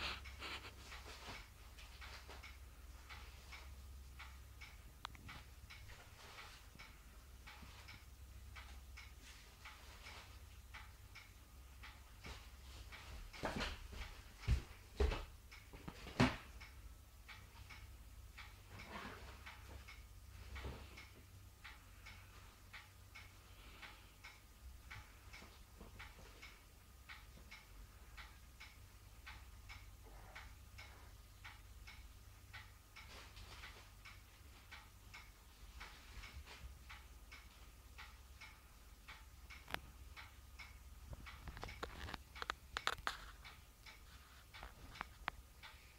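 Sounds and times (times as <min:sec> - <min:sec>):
clock ticking: 0:00.0 - 0:45.9.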